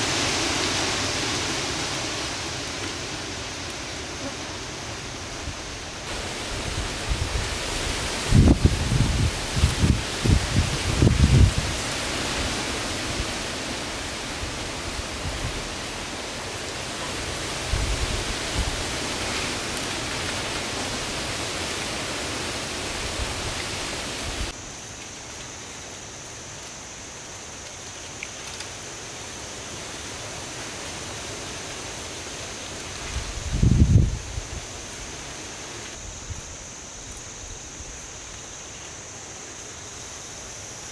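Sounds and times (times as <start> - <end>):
steady outdoor hiss: 0.0 - 40.9.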